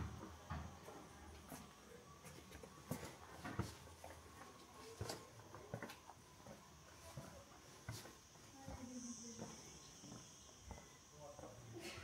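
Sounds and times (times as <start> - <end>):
faint footsteps walking: 0.0 - 11.6
quiet street ambience: 0.0 - 12.0.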